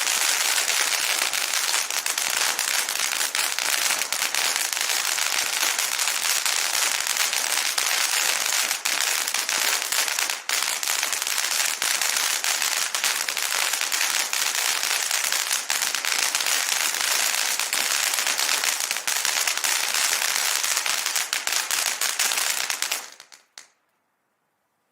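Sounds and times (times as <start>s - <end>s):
firework fountain crackling: 0.0s - 23.8s.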